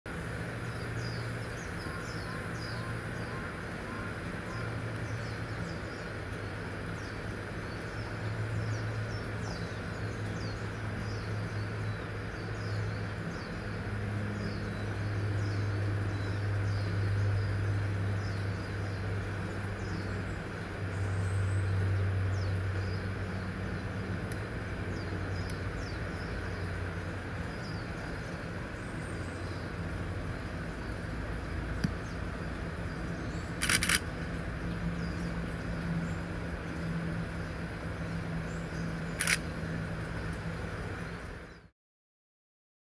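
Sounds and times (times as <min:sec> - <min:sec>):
low mechanical drone: 0:00.1 - 0:41.7
small birds chirping: 0:00.3 - 0:41.7.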